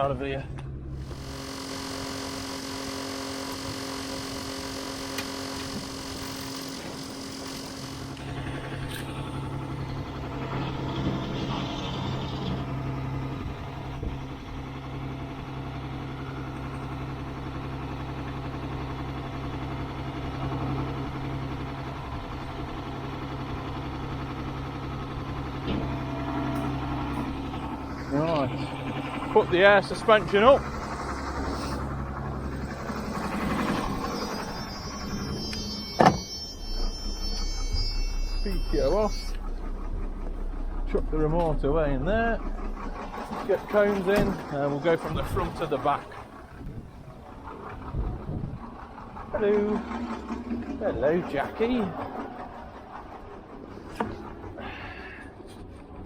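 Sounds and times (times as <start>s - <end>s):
hydraulic mechanical hum: 0.0s - 56.0s
truck diesel engine running: 0.0s - 56.0s.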